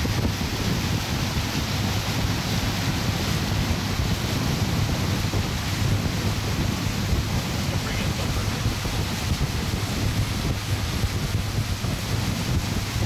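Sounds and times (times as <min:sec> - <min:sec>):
boat motor drone: 0:00.0 - 0:13.0
water noise: 0:00.0 - 0:13.0
wind rushing over microphone: 0:00.0 - 0:13.0.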